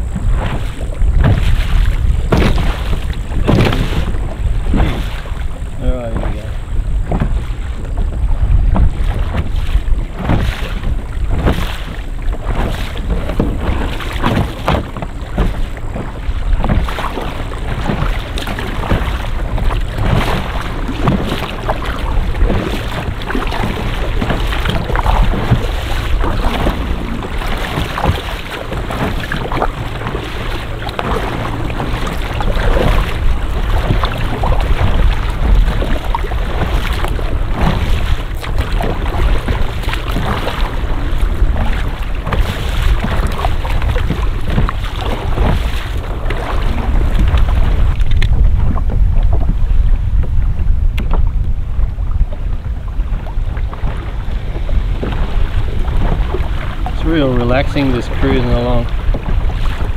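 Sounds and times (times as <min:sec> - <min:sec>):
water rushing along hull: 0:00.0 - 0:59.9
water splashes: 0:00.0 - 0:59.9
wind buffeting microphone: 0:00.0 - 0:59.9.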